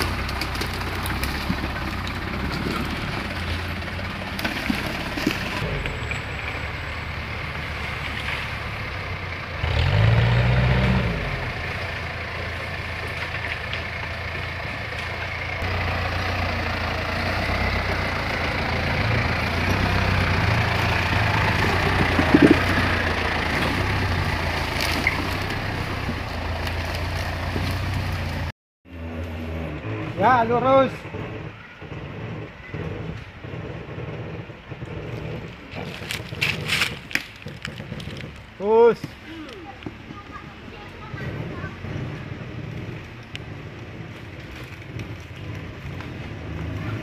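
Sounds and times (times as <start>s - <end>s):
off-road vehicle engine running: 0.0s - 47.0s.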